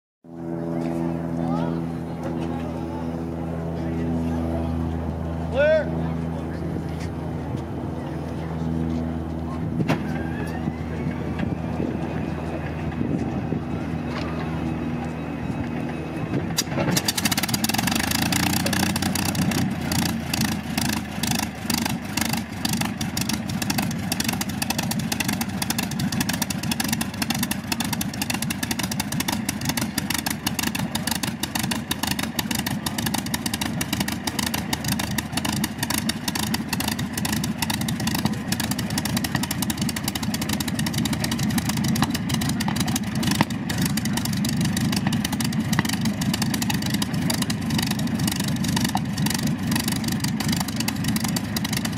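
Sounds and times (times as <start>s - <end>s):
aircraft engine running: 0.3s - 51.9s.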